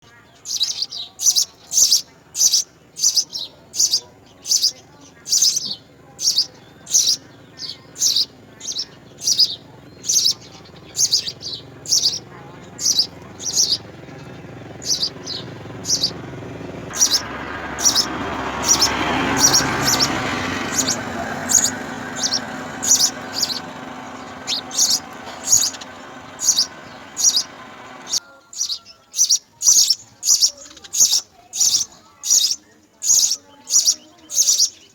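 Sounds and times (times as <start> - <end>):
sparrow chirping: 0.0 - 34.9.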